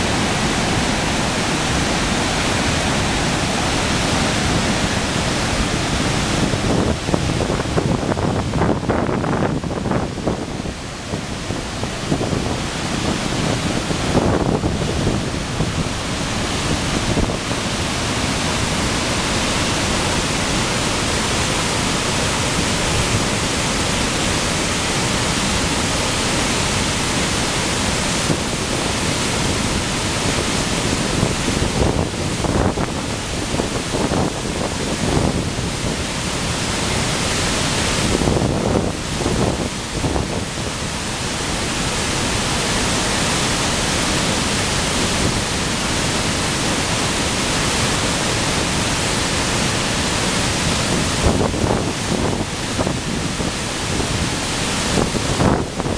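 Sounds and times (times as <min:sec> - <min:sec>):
water rushing over spillway: 0:00.0 - 0:55.9.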